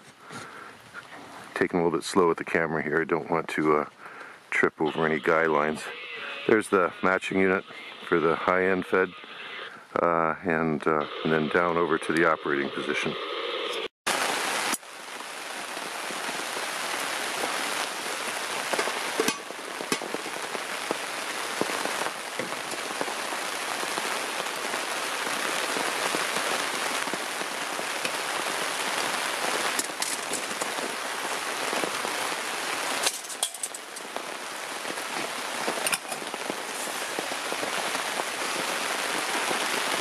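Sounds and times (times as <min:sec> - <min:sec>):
rain pattering on tarp: 0:00.0 - 0:09.1, 0:14.1 - 0:40.0.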